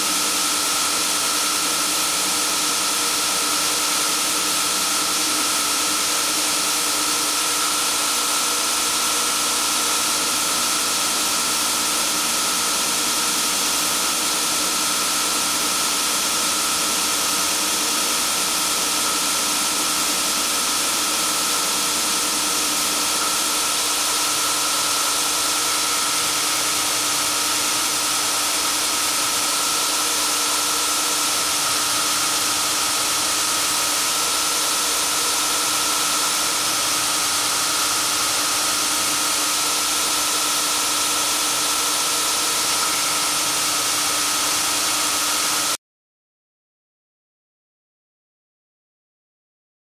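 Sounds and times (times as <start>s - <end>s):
belt grinder grinding: 0.0s - 45.7s.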